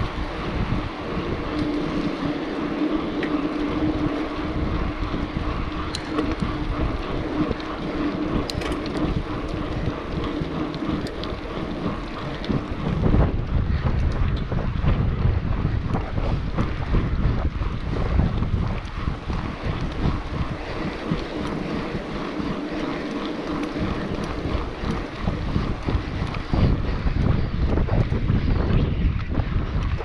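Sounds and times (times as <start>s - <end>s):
bike clicks and rattles: 0.0s - 30.0s
steady hum: 0.0s - 30.0s
tyres rolling on asphalt: 0.0s - 30.0s
wind buffeting microphone: 0.0s - 30.0s.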